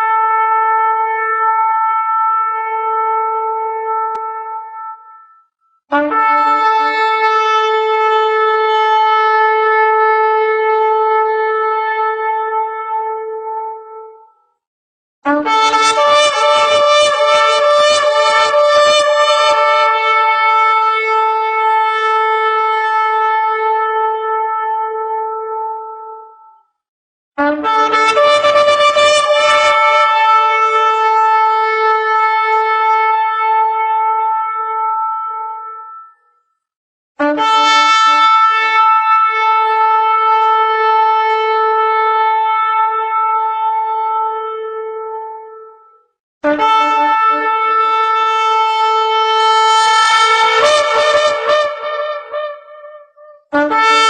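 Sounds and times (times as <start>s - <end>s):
shofar blast: 0.0s - 13.6s, 15.3s - 25.7s, 27.4s - 36.1s, 37.2s - 44.1s, 46.4s - 54.0s.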